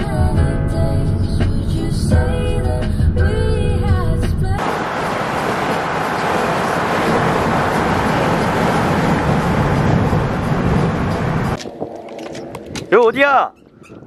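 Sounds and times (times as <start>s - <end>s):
road and wind noise of van: 0.0s - 14.0s.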